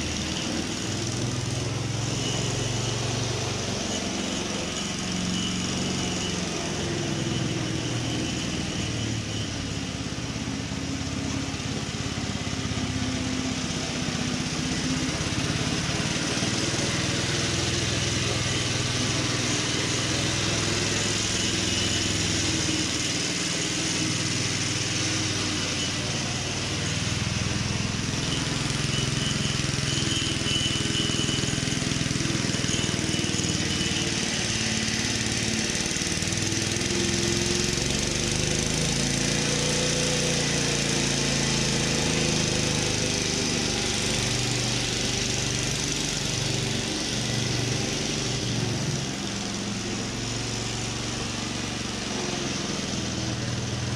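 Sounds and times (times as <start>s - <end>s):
mower petrol engine running: 0.0s - 53.9s.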